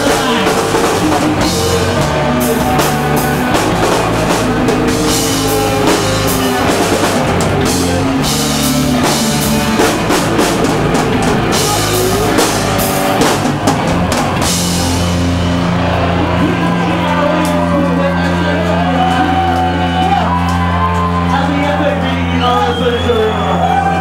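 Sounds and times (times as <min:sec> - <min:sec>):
loud rock band playing: 0:00.0 - 0:24.0.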